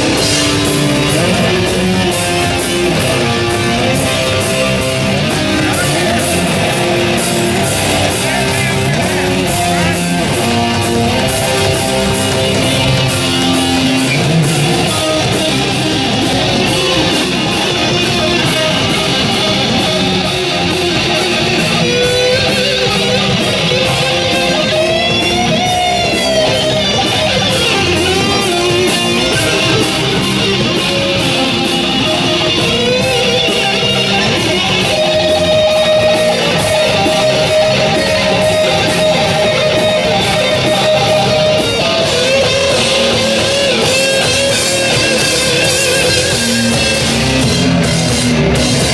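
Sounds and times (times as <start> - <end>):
heavy rock band playing: 0.0 - 48.9
lead guitar bending notes: 0.0 - 48.9.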